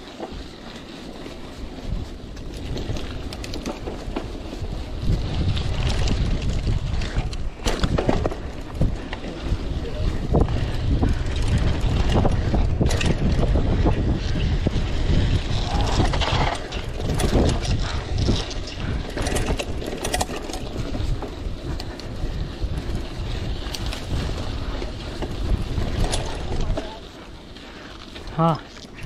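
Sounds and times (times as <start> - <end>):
bike rattling over bumps: 0.0 - 29.0
tyres rolling on gravel: 0.0 - 29.0
wind on microphone: 0.0 - 29.0.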